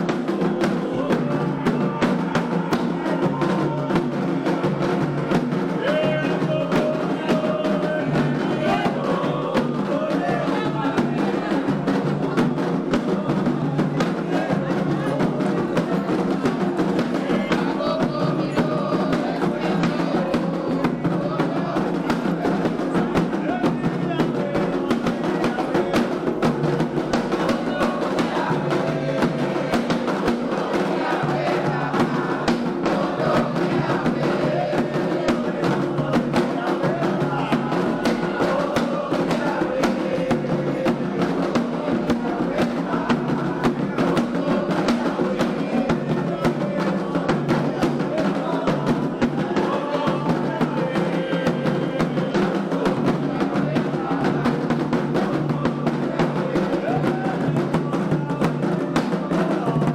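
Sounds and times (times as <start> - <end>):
hand drums playing driving rhythm: 0.0 - 59.9
voices singing a chant: 0.0 - 59.9.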